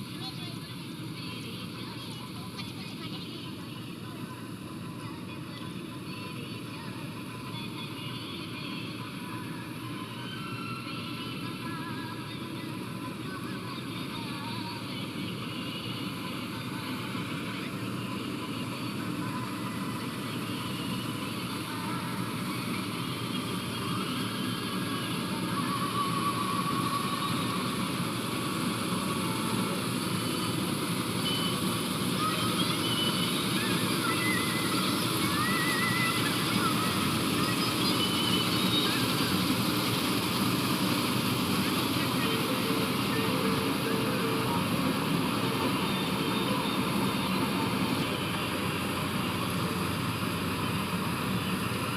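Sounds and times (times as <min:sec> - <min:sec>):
diesel farm machinery engine: 0:00.0 - 0:51.9.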